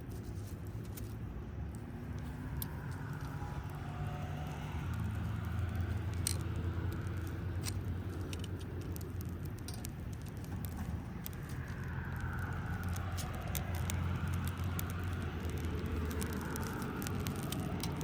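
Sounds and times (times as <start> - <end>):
bonfire crackling and popping: 0.0 - 18.0
low road traffic rumble: 0.0 - 18.0.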